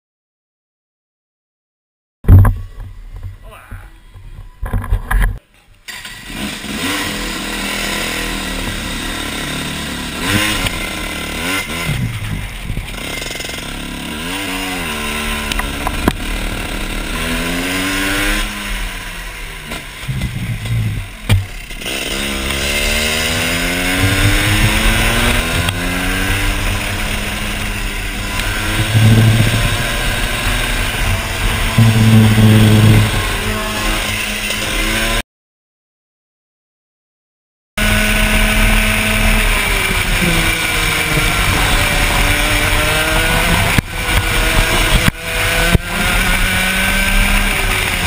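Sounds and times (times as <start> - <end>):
kart engine revving: 5.9 - 35.2, 37.8 - 48.0.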